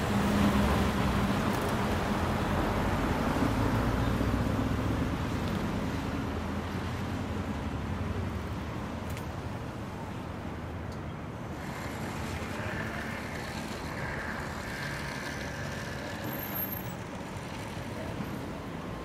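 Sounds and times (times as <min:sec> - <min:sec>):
traffic rolling past: 0:00.0 - 0:19.0.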